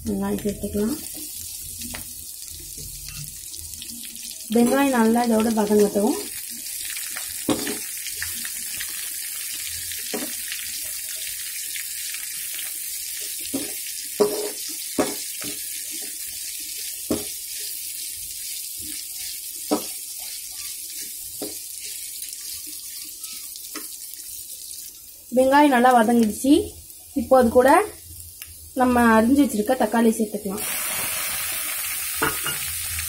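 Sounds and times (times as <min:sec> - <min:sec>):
onions sizzling in oil: 0:00.0 - 0:33.0.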